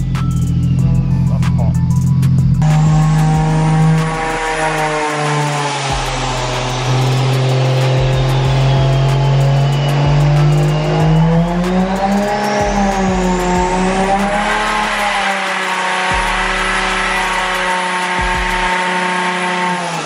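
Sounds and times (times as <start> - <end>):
car engine under load: 0.0 - 20.0
high turbo whistle: 0.0 - 20.0.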